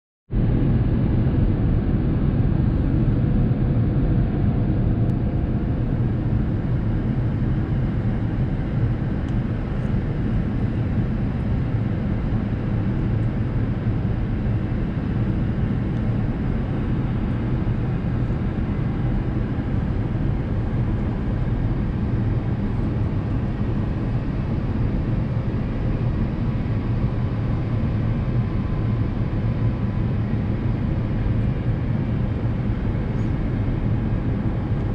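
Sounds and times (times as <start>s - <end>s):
airliner cabin drone: 0.3s - 34.9s.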